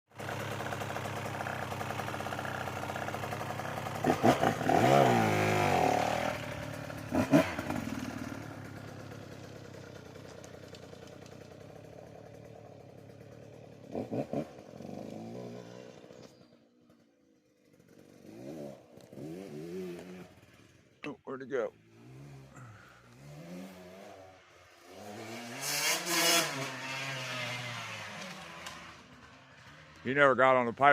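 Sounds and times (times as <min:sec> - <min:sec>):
dirt bike engine revving: 0:00.2 - 0:09.8, 0:11.2 - 0:30.2.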